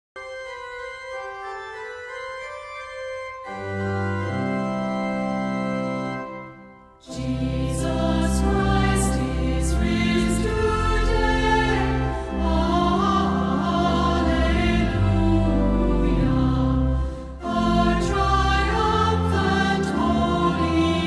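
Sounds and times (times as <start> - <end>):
church organ chords: 0.2 - 21.0.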